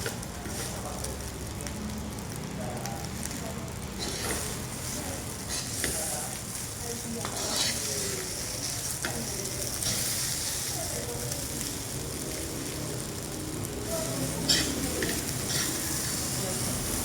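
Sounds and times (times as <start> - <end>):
fried rice sizzling in a pan: 0.0 - 17.0.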